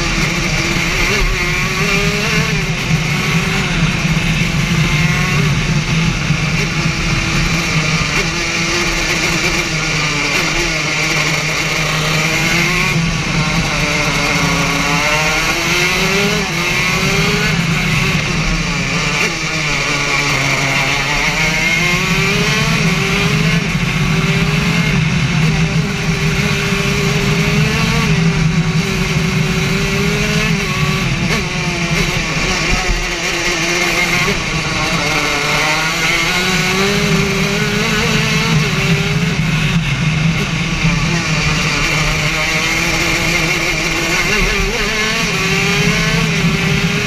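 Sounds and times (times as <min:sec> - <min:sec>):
racing kart engine: 0:00.0 - 0:47.0.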